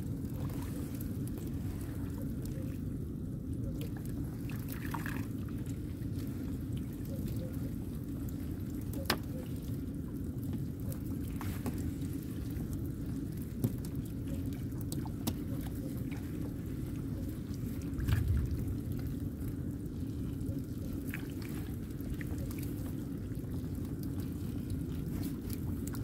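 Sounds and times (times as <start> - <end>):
steady low rumble: 0.0 - 26.0
water pouring and dripping: 0.0 - 26.0.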